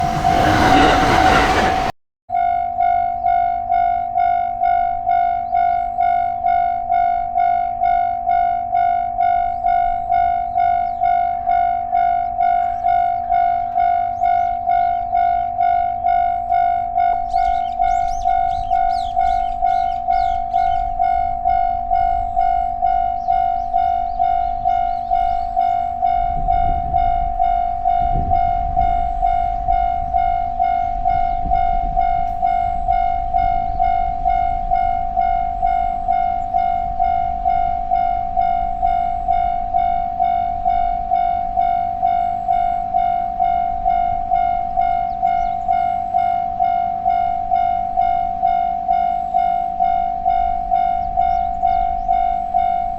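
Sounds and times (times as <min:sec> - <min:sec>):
train rumbling over crossing: 0:00.0 - 0:02.0, 0:03.1 - 0:52.9
level crossing warning bell ringing: 0:00.0 - 0:52.9.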